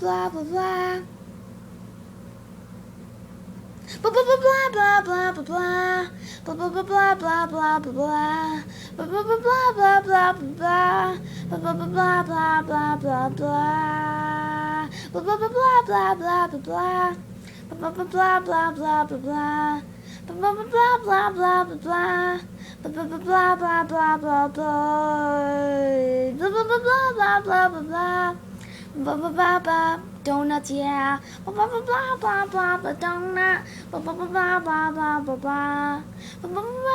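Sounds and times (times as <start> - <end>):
child singing: 0.0 - 1.1, 4.0 - 28.4, 29.0 - 36.9
faint low hum: 0.0 - 36.9.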